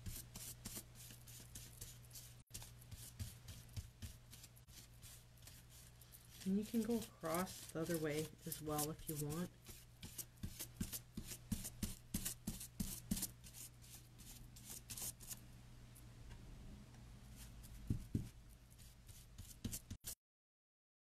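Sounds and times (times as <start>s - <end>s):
brush scratching on wood: 0.0s - 15.4s, 17.4s - 20.2s.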